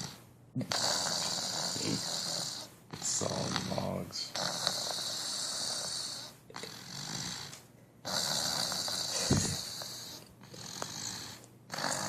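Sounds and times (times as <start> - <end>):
person snoring: 0.0 - 12.0.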